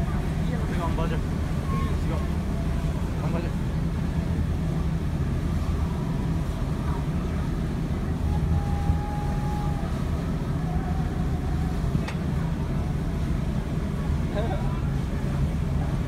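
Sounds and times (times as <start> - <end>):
ferry engines droning: 0.0 - 16.0
sea wash: 0.0 - 16.0.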